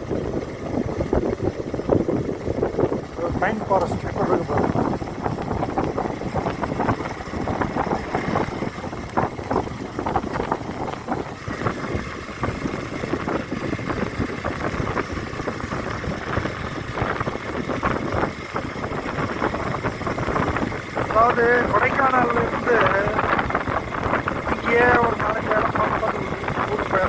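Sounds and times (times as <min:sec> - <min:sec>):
motorcycle running: 0:00.0 - 0:27.0
wind buffeting microphone: 0:00.0 - 0:27.0.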